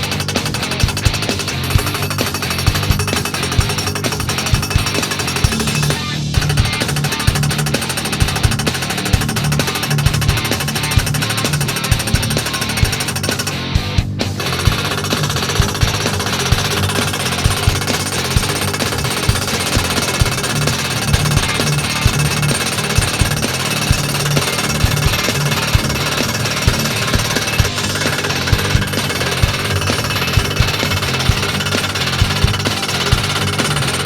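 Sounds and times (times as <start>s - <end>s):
post driver hammering: 0.0s - 13.7s, 14.4s - 34.0s.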